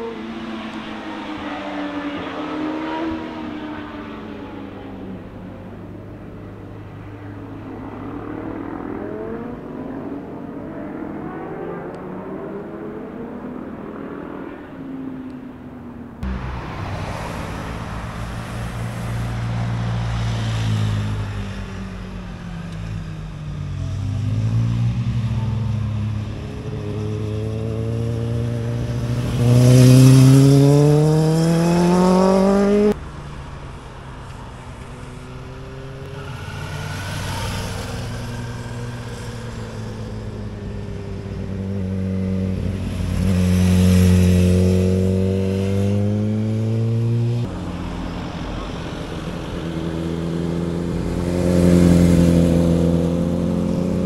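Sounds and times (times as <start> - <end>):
motorcycle engines accelerating: 0.0 - 33.1, 34.0 - 54.0.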